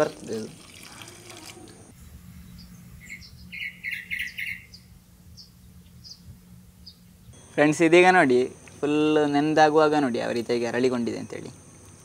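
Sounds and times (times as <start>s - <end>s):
birds chirping: 1.6s - 12.0s.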